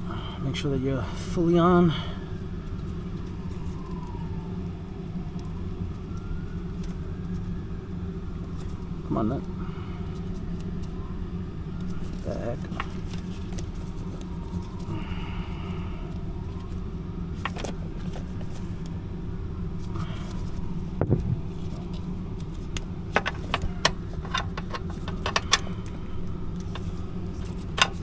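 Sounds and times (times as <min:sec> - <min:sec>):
low vehicle rumble: 0:00.0 - 0:28.0.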